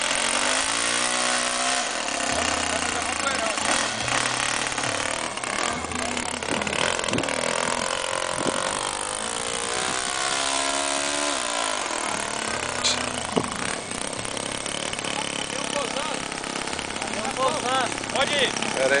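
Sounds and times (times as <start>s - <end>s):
model airplane engine revving: 0.0s - 19.0s.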